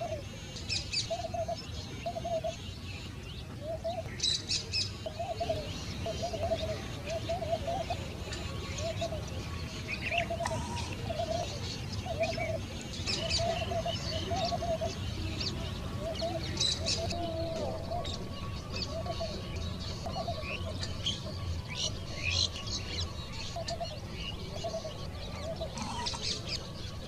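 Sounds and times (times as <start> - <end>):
small birds chirping: 0.0 - 27.0
low bird call: 4.8 - 26.7.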